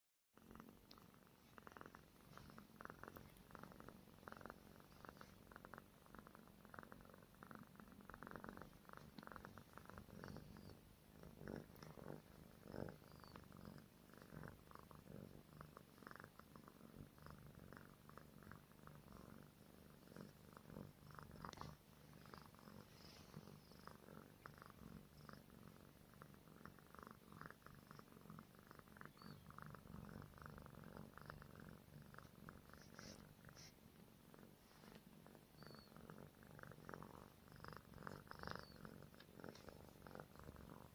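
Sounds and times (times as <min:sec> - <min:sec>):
cat purring: 0:00.4 - 0:40.9.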